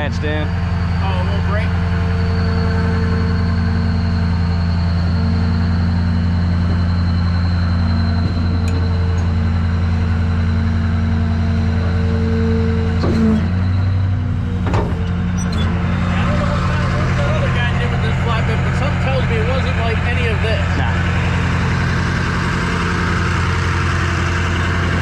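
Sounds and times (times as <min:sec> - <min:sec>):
faint high whine: 0:00.0 - 0:20.5
engine idling: 0:00.0 - 0:25.0.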